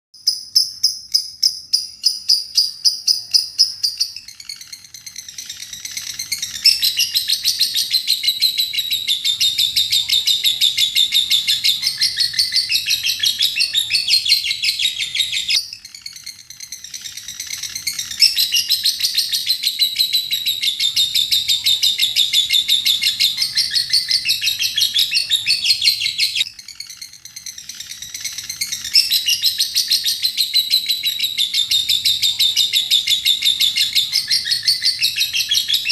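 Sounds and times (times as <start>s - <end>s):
lovebird chattering: 0.2s - 35.9s.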